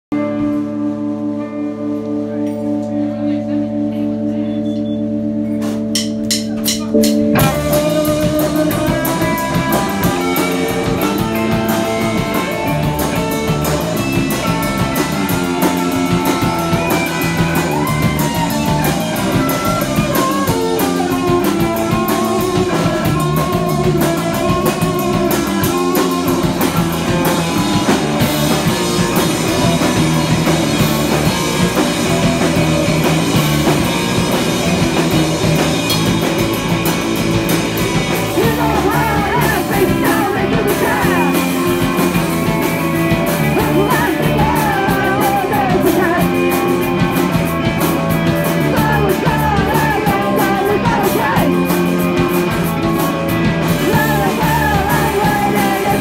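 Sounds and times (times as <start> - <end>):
electric guitar: 0.1 - 56.0
drum kit beat: 4.8 - 56.0.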